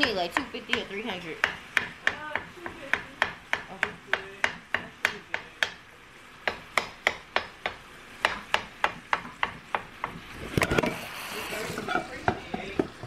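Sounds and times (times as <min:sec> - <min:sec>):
metal spatula tapping on pan: 0:00.0 - 0:05.8, 0:06.4 - 0:10.8, 0:11.9 - 0:13.0
meat browning in skillet: 0:00.0 - 0:13.0.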